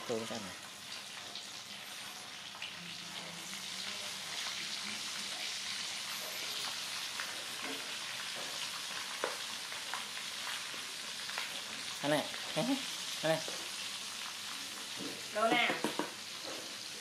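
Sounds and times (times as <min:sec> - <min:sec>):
food frying in hot oil: 0:00.0 - 0:17.0
oil crackling and popping: 0:00.0 - 0:17.0.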